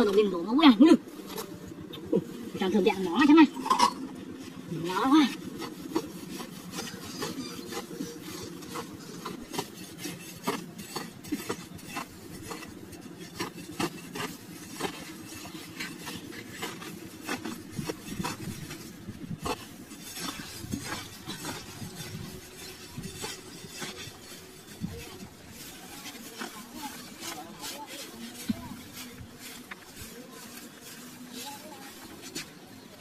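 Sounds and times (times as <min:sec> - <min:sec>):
metal blade scraping dry soil: 0:00.0 - 0:33.0.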